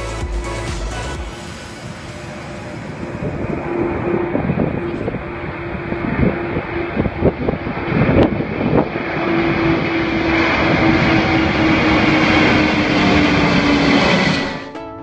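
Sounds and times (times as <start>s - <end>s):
aircraft engines running: 0.0s - 14.9s.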